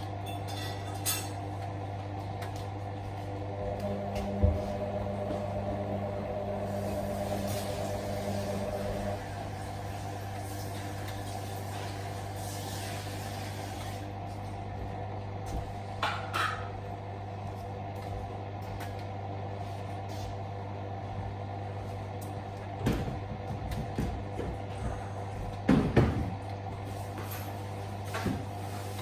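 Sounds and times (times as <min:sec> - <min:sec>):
steady low hum: 0:00.0 - 0:29.0
washing machine drum motor: 0:00.0 - 0:29.0.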